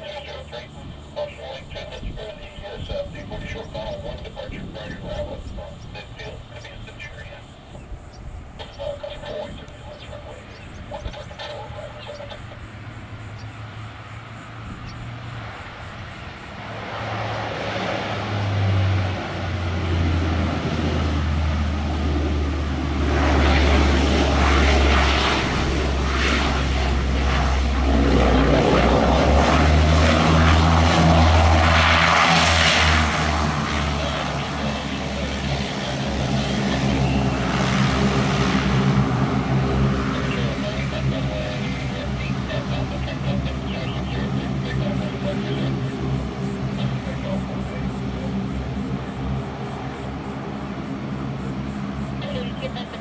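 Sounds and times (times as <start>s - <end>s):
airplane engines droning: 0.0s - 53.0s
steady low hum: 0.0s - 53.0s.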